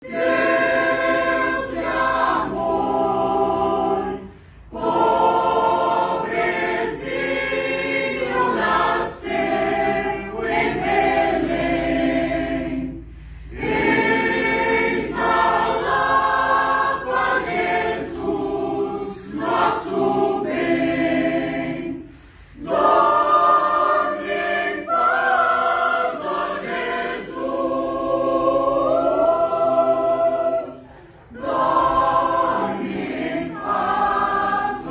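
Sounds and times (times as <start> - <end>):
choir singing: 0.0 - 34.9.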